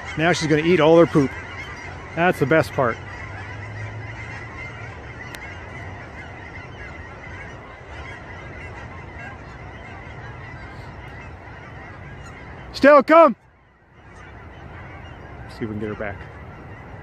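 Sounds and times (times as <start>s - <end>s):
flock of geese honking: 0.0s - 17.0s.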